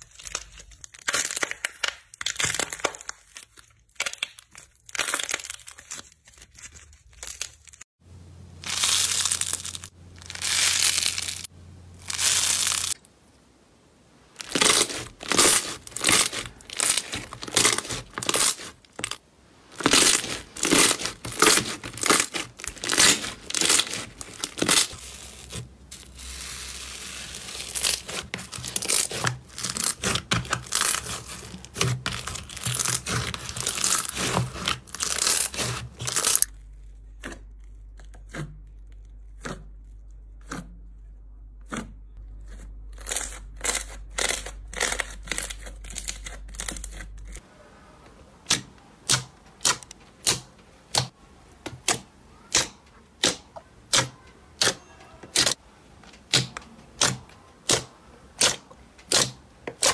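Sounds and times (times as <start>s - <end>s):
hands crackling and tearing slime: 0.0s - 7.8s, 8.6s - 13.0s, 14.4s - 40.6s, 48.4s - 59.9s
soft slime squishes: 8.7s - 59.9s.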